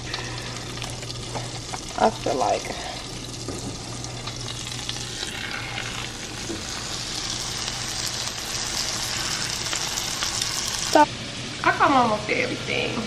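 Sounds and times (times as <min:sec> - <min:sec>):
steak sizzling in skillet: 0:00.0 - 0:12.4.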